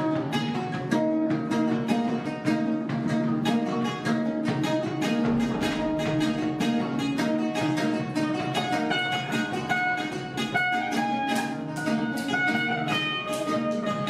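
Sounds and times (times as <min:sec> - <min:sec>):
guitar and plucked strings improvising: 0:00.0 - 0:14.0.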